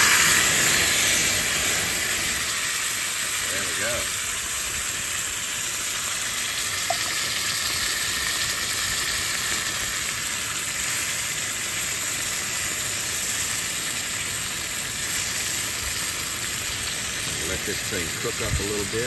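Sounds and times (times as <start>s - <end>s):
beans and sausage sizzling: 0.0s - 19.0s.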